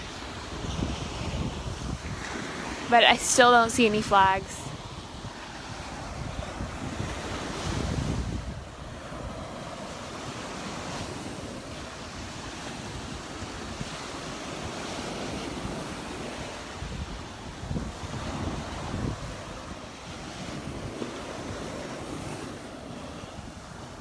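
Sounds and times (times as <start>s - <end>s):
small surf breaking on sand: 0.0s - 24.0s
wind buffeting microphone: 0.0s - 24.0s.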